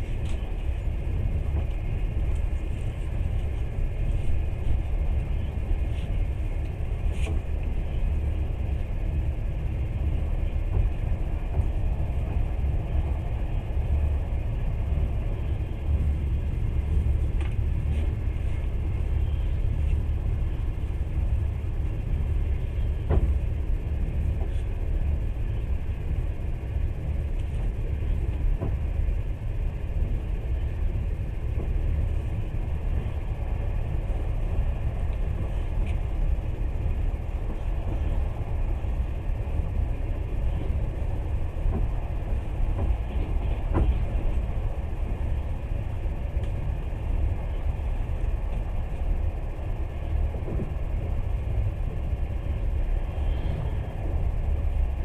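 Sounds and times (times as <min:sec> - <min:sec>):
train carriage rumble: 0:00.0 - 0:55.0.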